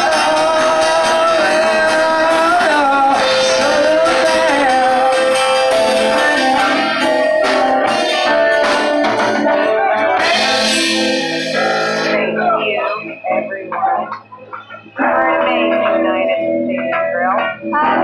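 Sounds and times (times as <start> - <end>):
live band playing: 0.0 - 18.0
wavering held melody line: 0.0 - 18.0.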